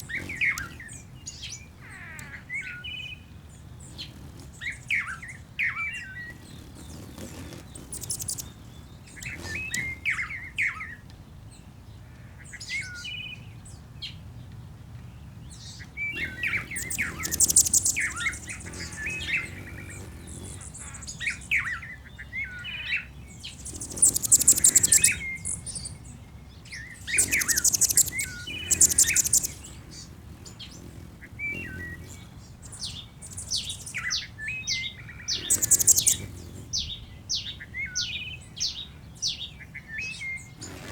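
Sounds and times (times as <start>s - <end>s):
birds chirping and whistling: 0.0s - 11.0s, 15.4s - 40.9s
high rapid bird trills: 0.0s - 11.0s, 15.5s - 40.9s.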